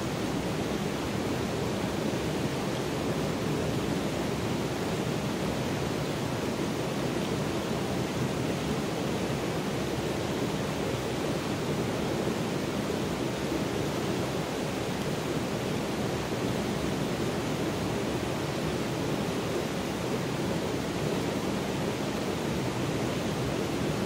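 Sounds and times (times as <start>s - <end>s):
stream flowing over rocks: 0.0s - 24.0s.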